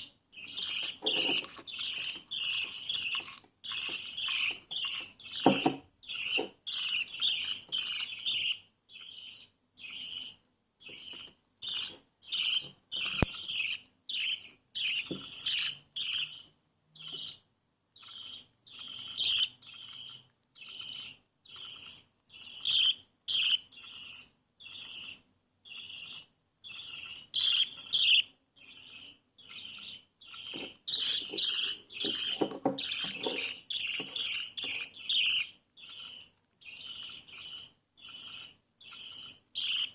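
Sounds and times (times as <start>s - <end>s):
baby budgerigar begging calls: 0.0s - 39.9s.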